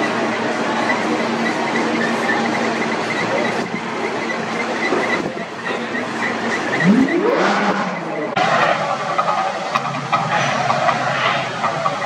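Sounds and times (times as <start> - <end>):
busy pedestrian area noise: 0.0 - 12.0
escalator hum and rumble: 0.0 - 12.0.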